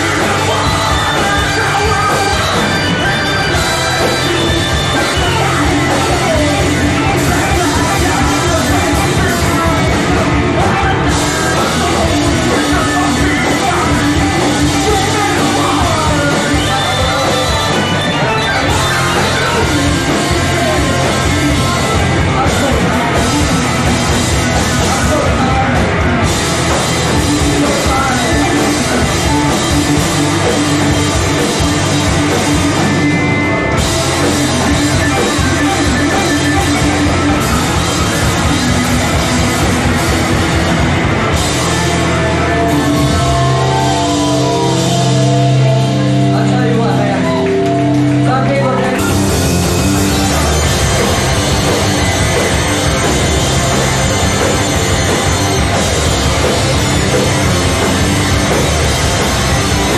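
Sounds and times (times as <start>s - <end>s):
person singing: 0.0s - 26.0s, 26.7s - 33.1s, 41.5s - 59.9s
drums: 0.0s - 59.9s
guitars: 0.0s - 59.9s.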